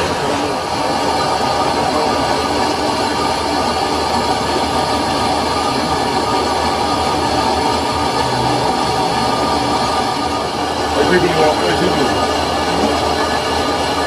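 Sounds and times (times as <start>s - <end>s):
metal lathe running: 0.0s - 14.0s.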